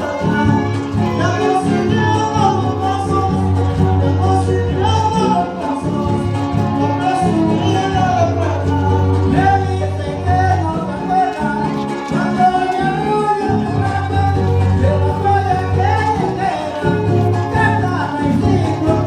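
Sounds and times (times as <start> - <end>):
person singing: 0.0 - 19.0
string trio playing: 0.0 - 19.0.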